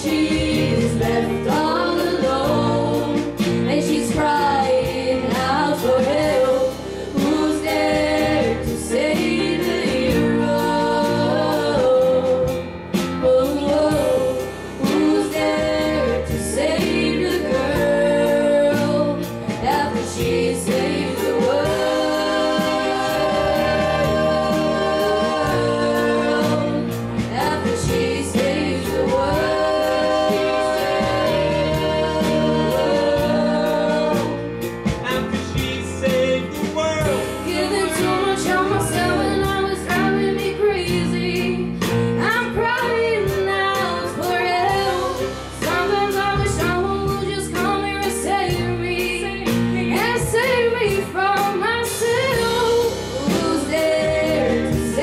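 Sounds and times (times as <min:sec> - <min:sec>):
backing vocalists singing in harmony: 0:00.0 - 0:55.0
live band playing: 0:00.0 - 0:55.0.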